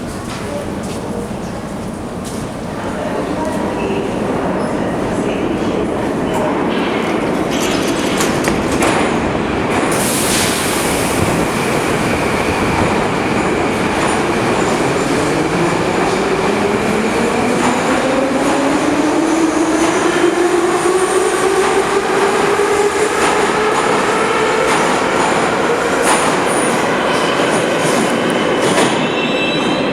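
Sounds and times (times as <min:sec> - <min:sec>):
train rumbling on rails: 0:00.0 - 0:29.9.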